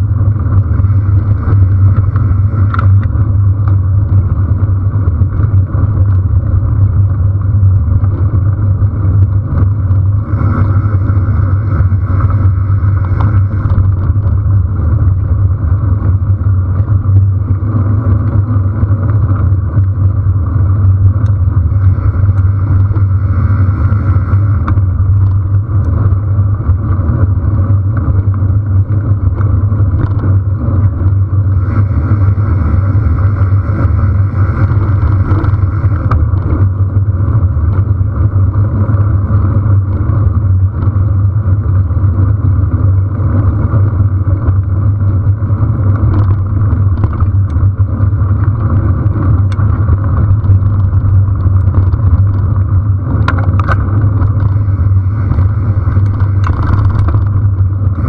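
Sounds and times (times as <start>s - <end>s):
bicycle rumbling on dirt road: 0.0s - 58.0s
tyre noise on rough track: 0.0s - 58.0s
wind buffeting microphone: 0.0s - 58.0s.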